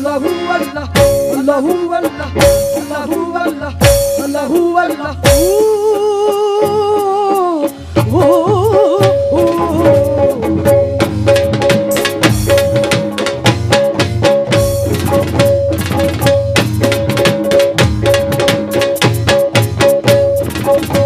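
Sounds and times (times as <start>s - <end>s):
fast drum strokes: 0.0s - 21.0s.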